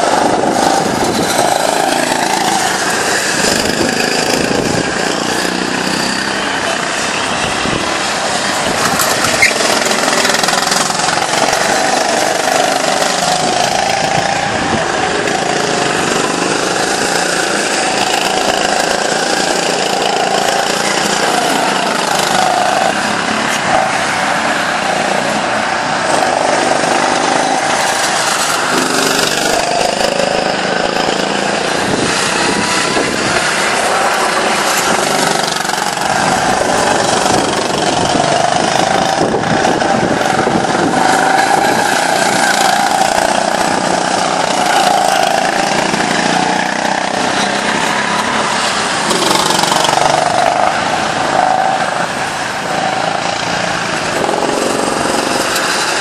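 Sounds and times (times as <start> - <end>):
go-kart engines buzzing: 0.0 - 56.0.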